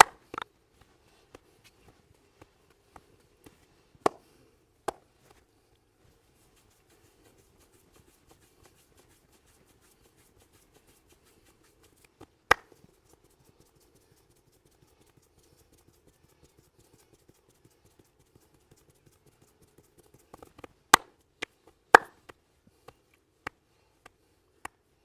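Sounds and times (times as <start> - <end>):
soft light massage taps: 0.0 - 24.8.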